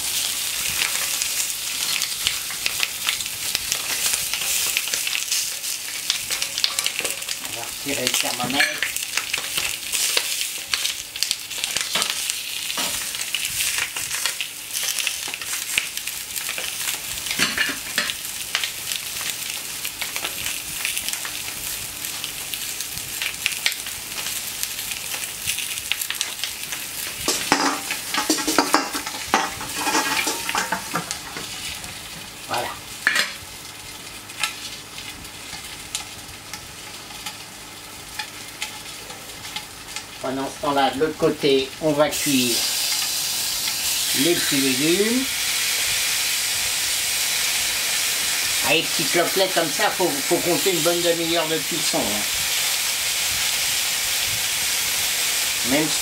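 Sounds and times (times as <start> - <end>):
meat sizzling on a hot plate: 0.0 - 56.0.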